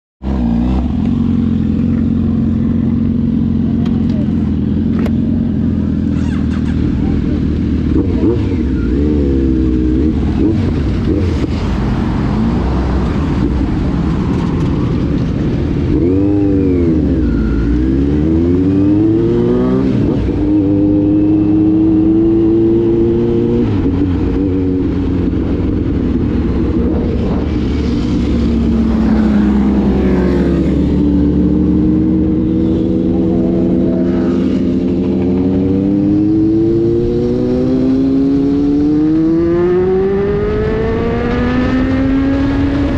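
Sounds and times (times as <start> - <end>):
vehicle engine accelerating: 0.2 - 42.9
wind and road noise: 0.2 - 42.9.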